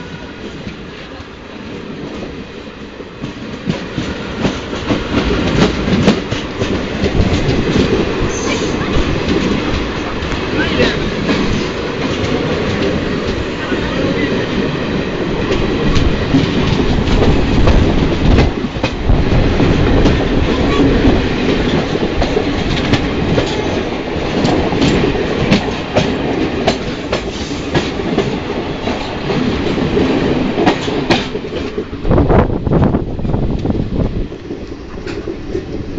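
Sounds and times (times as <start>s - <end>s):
clickety-clack over rail joints: 0.0s - 35.9s
train wheels rumbling on rails: 0.0s - 35.9s.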